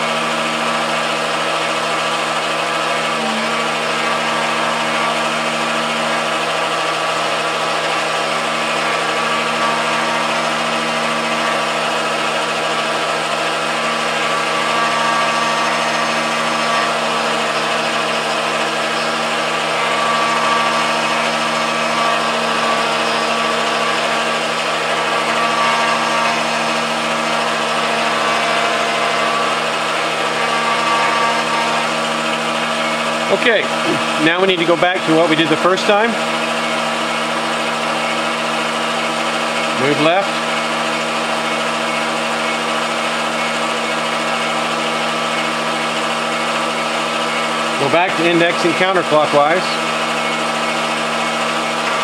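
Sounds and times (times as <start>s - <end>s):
lathe machine humming: 0.0s - 52.0s.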